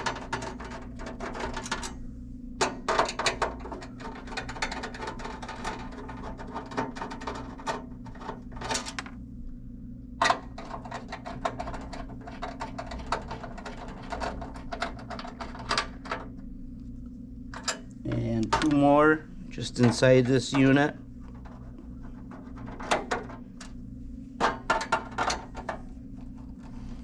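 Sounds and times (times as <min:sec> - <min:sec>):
low hum: 0:00.1 - 0:27.0.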